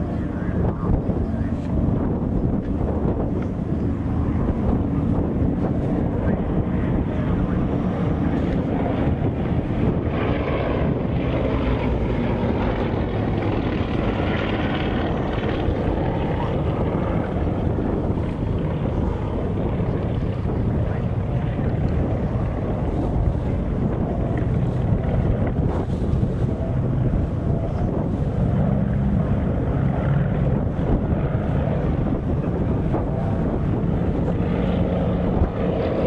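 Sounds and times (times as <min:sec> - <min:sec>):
aircraft engine flying past: 0:00.0 - 0:36.0
wind buffeting microphone: 0:00.0 - 0:36.0.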